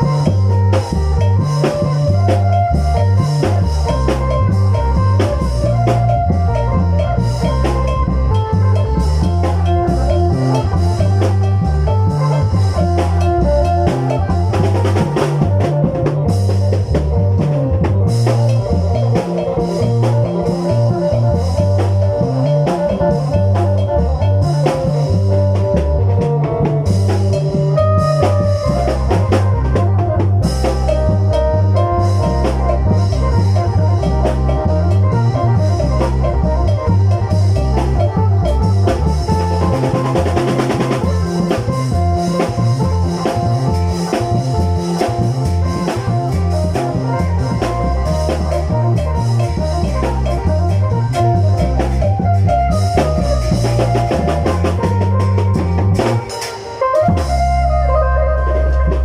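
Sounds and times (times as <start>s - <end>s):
bass: 0.0s - 59.0s
steady drum beat: 0.0s - 59.0s.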